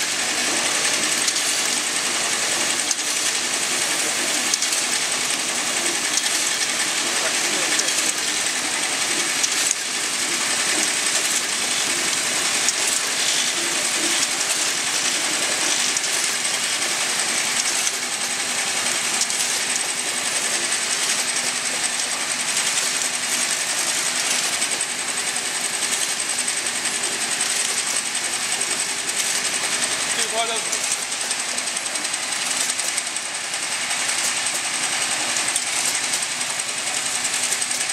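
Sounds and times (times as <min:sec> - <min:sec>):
filling machine clattering: 0:00.0 - 0:37.9.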